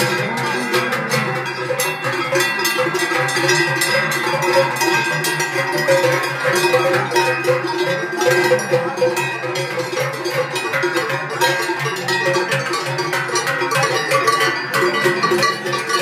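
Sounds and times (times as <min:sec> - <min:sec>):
cowbells clanging: 0:00.0 - 0:16.0.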